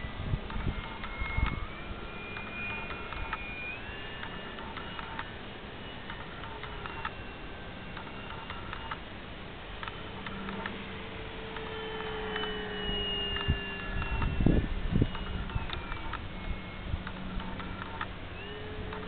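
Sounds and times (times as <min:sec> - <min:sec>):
rc plane motor whine: 0:00.0 - 0:19.0
faint ticks: 0:00.4 - 0:07.3, 0:07.9 - 0:09.1, 0:09.8 - 0:10.9, 0:11.5 - 0:16.3, 0:17.0 - 0:19.0.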